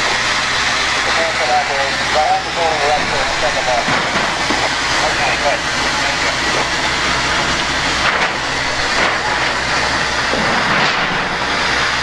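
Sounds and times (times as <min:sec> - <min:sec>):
pump droning: 0:00.0 - 0:12.0.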